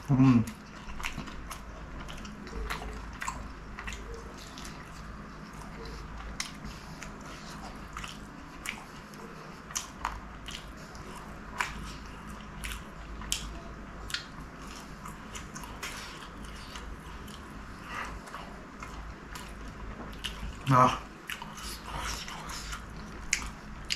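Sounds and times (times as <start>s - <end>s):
low steady hum: 0.0s - 23.9s
crunchy chewing: 0.4s - 23.9s.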